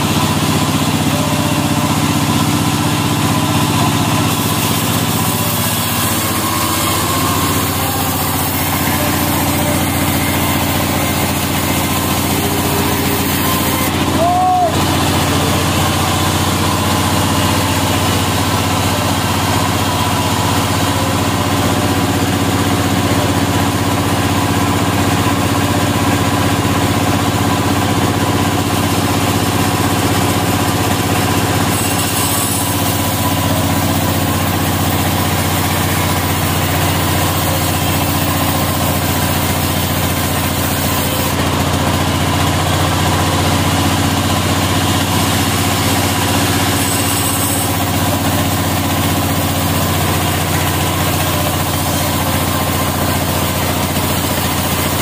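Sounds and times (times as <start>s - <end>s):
sawmill saw motor humming: 0.0s - 55.0s.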